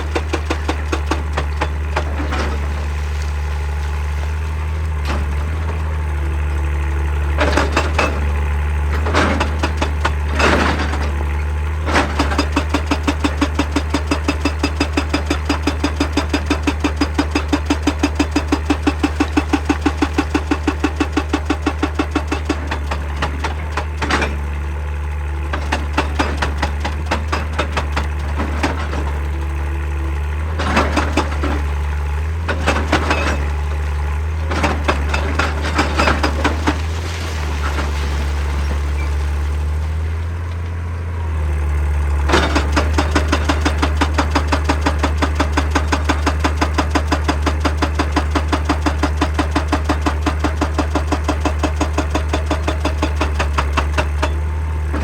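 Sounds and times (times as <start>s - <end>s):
hydraulic breaker hammering rock: 0.0s - 40.9s, 42.1s - 55.0s
diesel engine humming: 0.0s - 55.0s.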